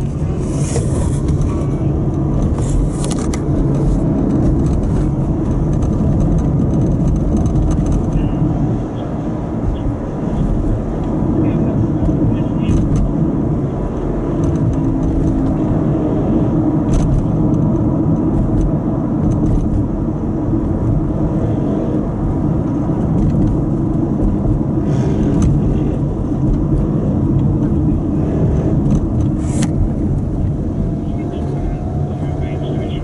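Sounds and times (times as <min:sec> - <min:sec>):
car road and engine noise: 0:00.0 - 0:33.0.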